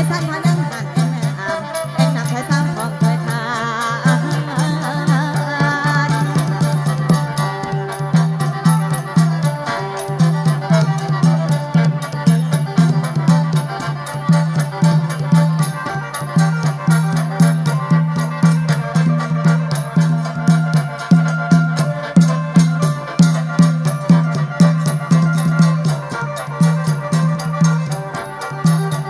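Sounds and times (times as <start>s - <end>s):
band playing instrumental music: 0.0s - 29.0s.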